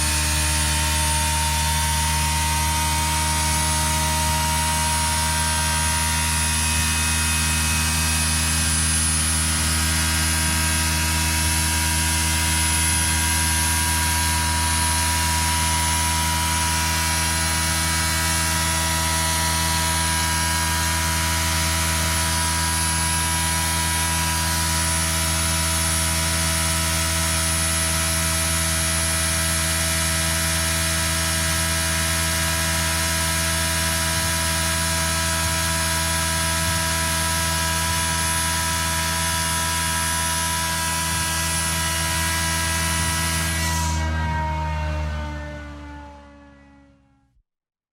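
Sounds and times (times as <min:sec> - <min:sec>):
exhaust fan running: 0:00.0 - 0:46.9.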